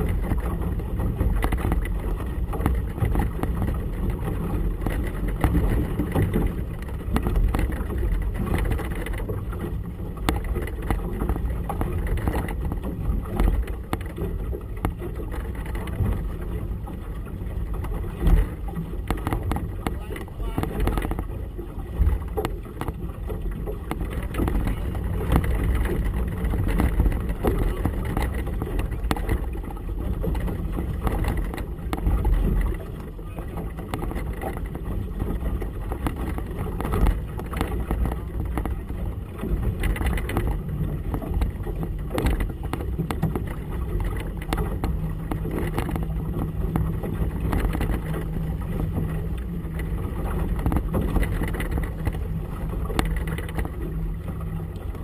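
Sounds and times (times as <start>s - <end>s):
outboard motor idling: 0.0s - 55.0s
water lapping against hull: 0.0s - 55.0s
wind buffeting microphone: 0.0s - 55.0s.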